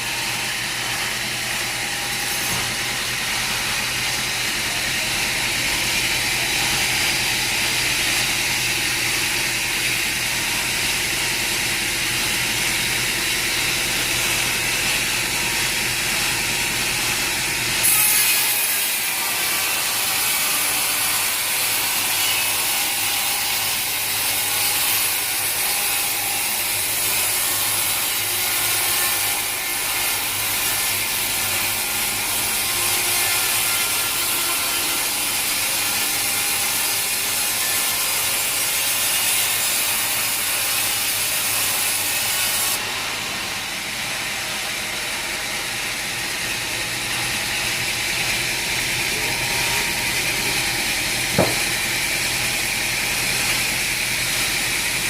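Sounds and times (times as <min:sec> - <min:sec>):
sawmill saw cutting log: 0:00.0 - 0:55.0.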